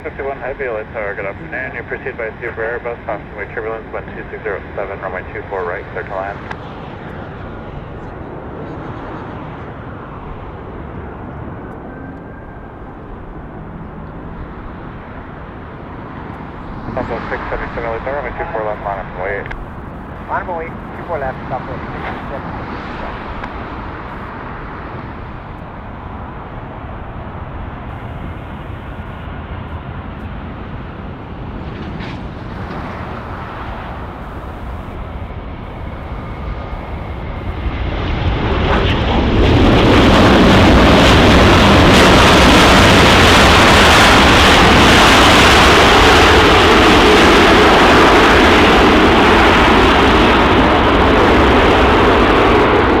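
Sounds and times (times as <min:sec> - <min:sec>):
airliner jet engines: 0:00.0 - 0:53.0.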